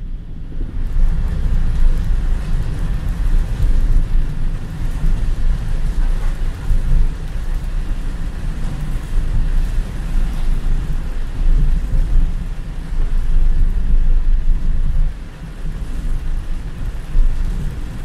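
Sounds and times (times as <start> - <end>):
car driving on wet road: 0.0 - 18.0
heavy rain on car roof: 0.0 - 18.0.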